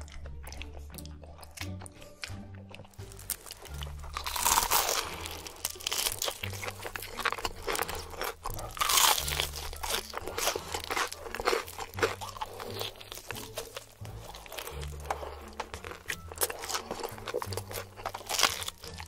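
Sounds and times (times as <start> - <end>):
crunching fried chicken: 0.0 - 19.0.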